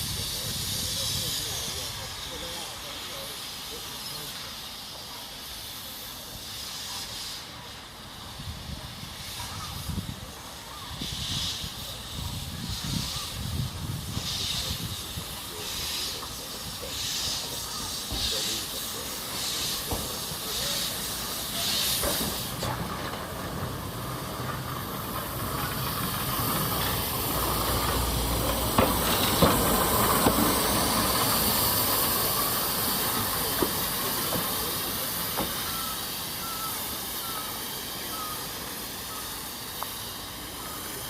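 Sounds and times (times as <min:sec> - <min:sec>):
locomotive steam hissing: 0:00.0 - 0:41.0.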